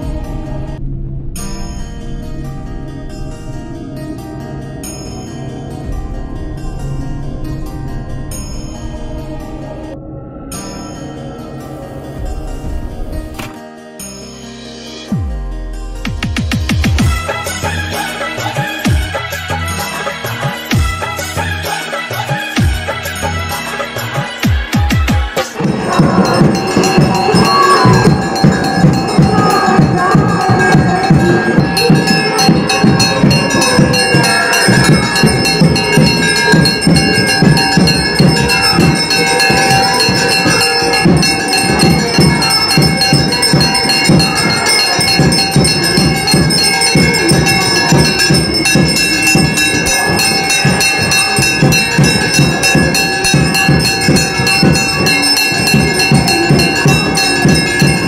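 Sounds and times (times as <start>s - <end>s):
temple bells ringing: 0.0s - 24.3s, 25.4s - 58.0s.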